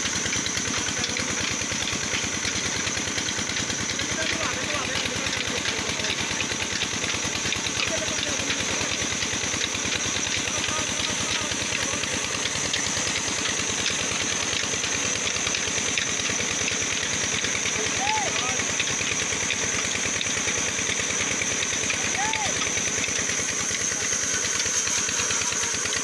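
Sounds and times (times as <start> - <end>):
stationary engine running: 0.0 - 26.0.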